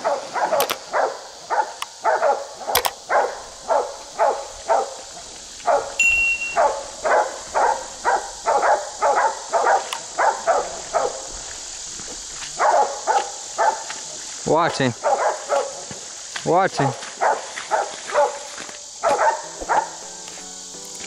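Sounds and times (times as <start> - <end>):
dogs barking: 0.0 - 16.2, 16.8 - 20.4.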